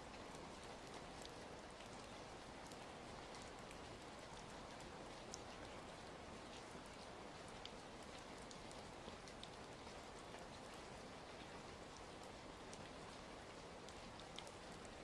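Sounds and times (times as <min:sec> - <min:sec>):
soft steady rain: 0:00.0 - 0:15.0.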